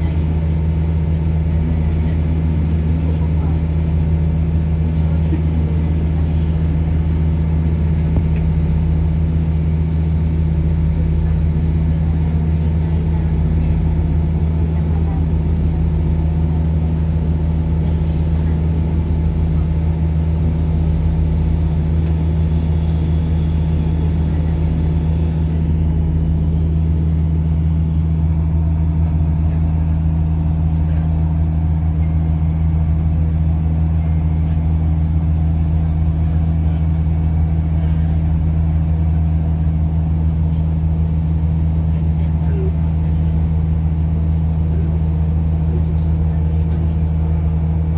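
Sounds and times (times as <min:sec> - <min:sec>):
low engine drone: 0:00.0 - 0:47.9.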